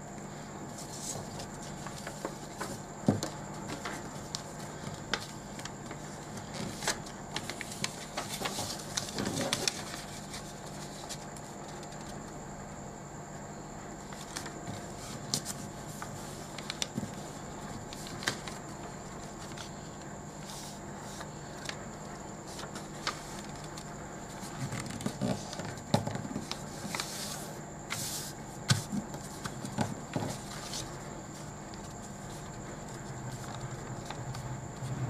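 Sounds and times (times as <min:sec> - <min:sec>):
paper crinkling and folding: 0:00.7 - 0:12.2, 0:14.0 - 0:21.8, 0:22.5 - 0:35.0.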